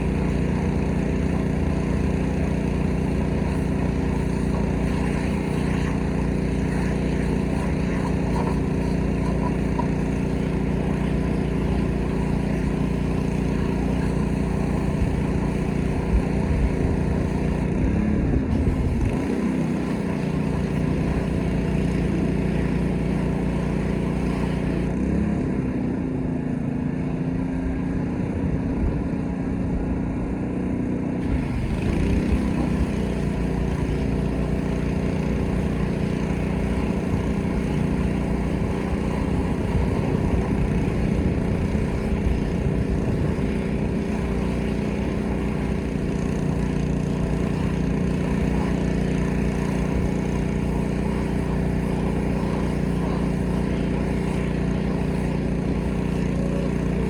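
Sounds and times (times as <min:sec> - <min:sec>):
pressure washer engine running: 0:00.0 - 0:25.8, 0:31.2 - 0:57.0.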